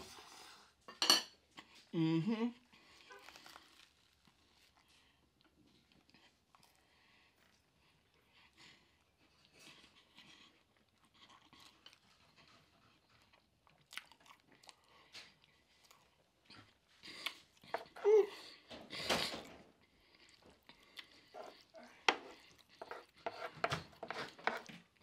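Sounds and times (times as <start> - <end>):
close chewing with soft crunches: 2.6 - 25.0.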